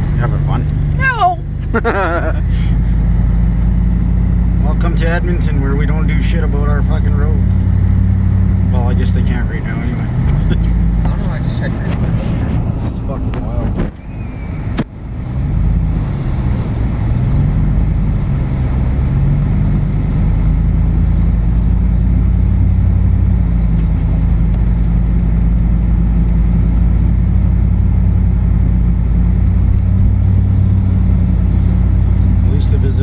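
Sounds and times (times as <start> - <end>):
car engine accelerating: 0.0 - 33.0
road noise rumble: 0.0 - 33.0.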